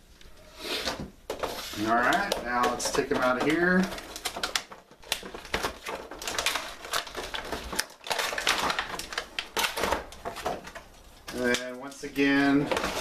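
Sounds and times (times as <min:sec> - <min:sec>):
plastic packaging crackling: 0:00.8 - 0:13.0.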